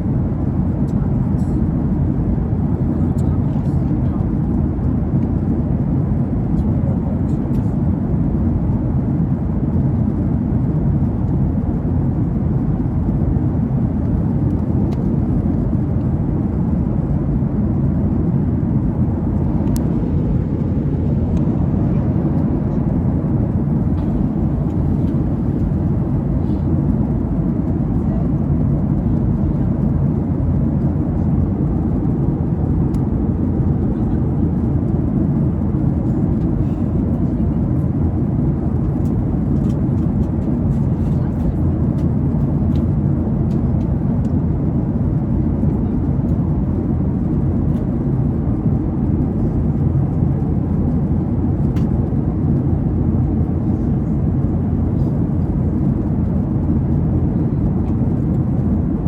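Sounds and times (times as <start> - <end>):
airliner engines droning: 0.0 - 59.0
rushing air in cabin: 11.5 - 59.0.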